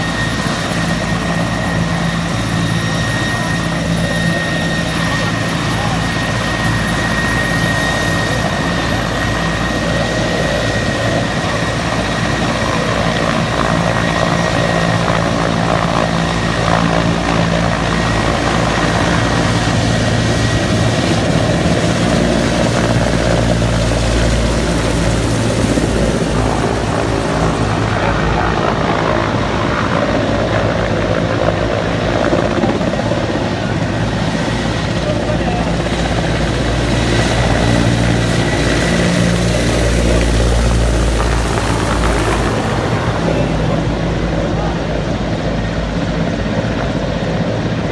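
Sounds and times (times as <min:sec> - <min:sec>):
helicopter rotor and engines: 0:00.0 - 0:47.9.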